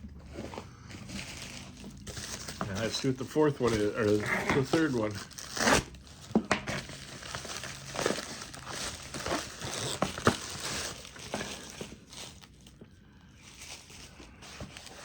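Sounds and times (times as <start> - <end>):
packaging crinkling and tearing: 0.3 - 15.0.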